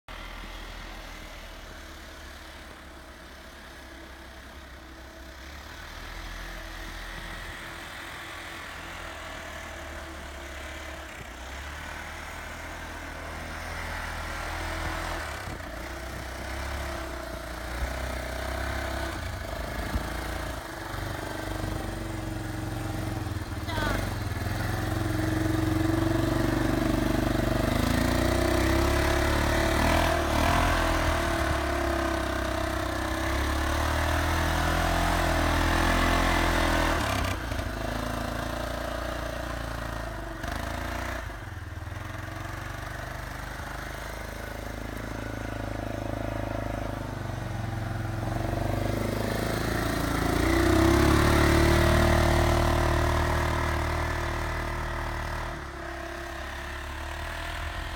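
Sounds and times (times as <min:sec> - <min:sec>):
atv engine running: 0:00.1 - 0:57.9.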